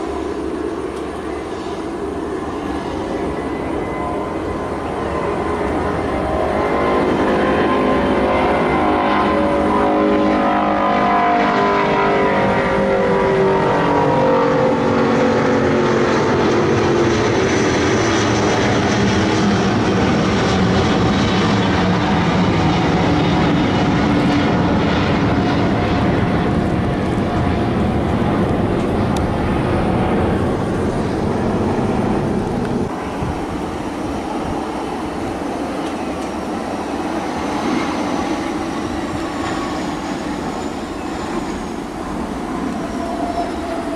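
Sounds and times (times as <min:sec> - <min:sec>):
loud jet roar overhead: 0:00.0 - 0:43.9.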